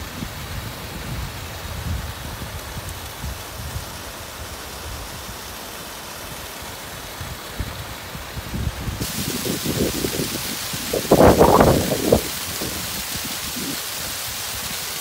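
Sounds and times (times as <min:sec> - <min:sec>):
water splashing onto boulders: 0:01.7 - 0:15.0.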